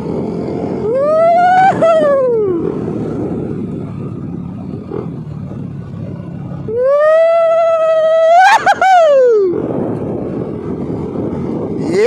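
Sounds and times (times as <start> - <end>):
scooter engine running: 0.0 - 12.0
wind rumble: 0.0 - 12.0.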